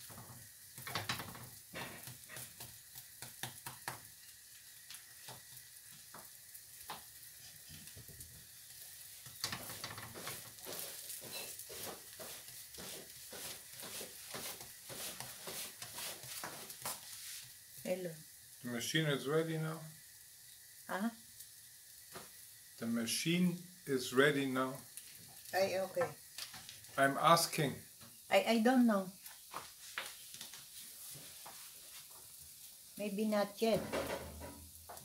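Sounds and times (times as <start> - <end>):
oil crackles and pops: 0.0 - 18.7, 19.8 - 33.0, 33.6 - 35.0
omelette sizzling in frying pan: 0.0 - 35.0.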